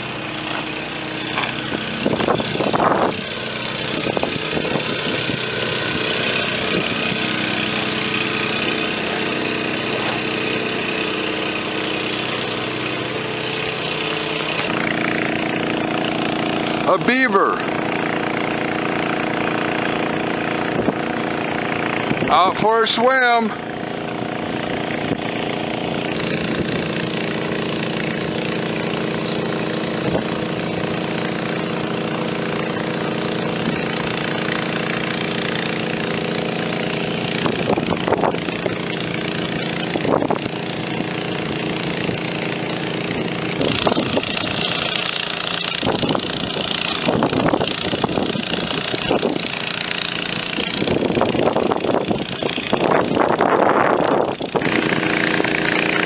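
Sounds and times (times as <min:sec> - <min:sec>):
water pump engine running: 0:00.0 - 0:56.0.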